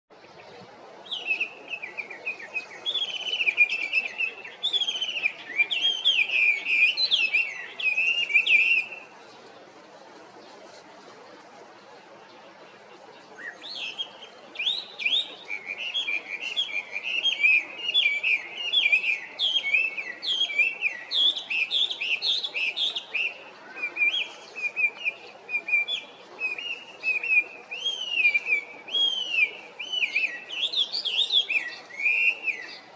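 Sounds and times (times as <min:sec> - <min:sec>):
bird singing whistled phrases: 0:01.0 - 0:09.1, 0:13.4 - 0:32.9.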